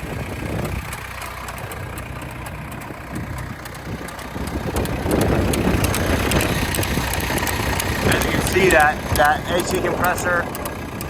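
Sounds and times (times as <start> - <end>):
tractor diesel engine idling: 0.0 - 11.0
ac compressor clicking: 0.2 - 11.0.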